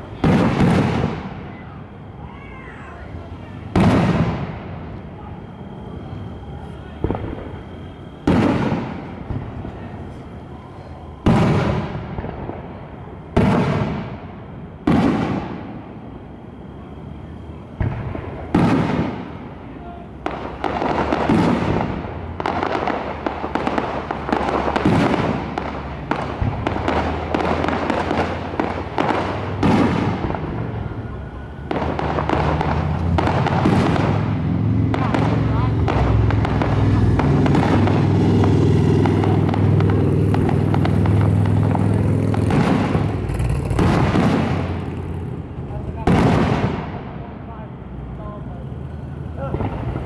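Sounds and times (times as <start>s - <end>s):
fireworks bursting overhead: 0.0s - 50.0s.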